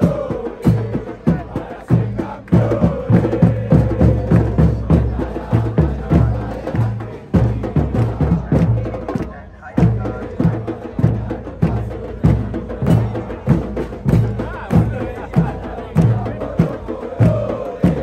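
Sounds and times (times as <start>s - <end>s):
crowd chanting in unison: 0.0s - 18.0s
drums beating: 0.0s - 18.0s.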